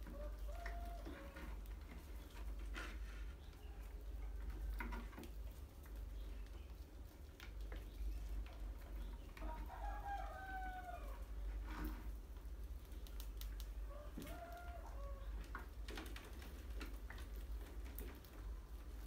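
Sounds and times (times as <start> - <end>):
rats clicking and scratching: 0.0 - 19.0.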